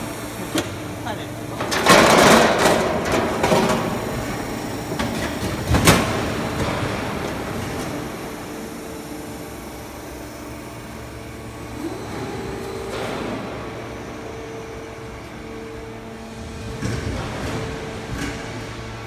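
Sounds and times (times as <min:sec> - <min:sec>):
machine hum with held tone: 0:00.0 - 0:19.0.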